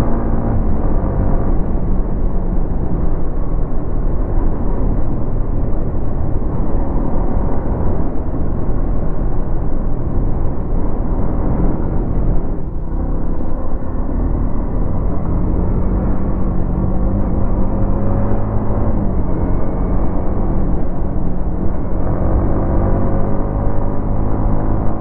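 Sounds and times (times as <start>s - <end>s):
road and wind rush: 0.0s - 25.0s.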